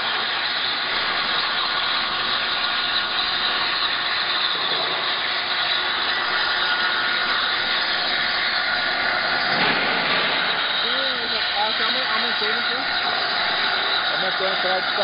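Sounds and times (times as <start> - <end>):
faint steady whine: 0.0 - 15.0
plasma cutter torch hissing: 0.0 - 15.0.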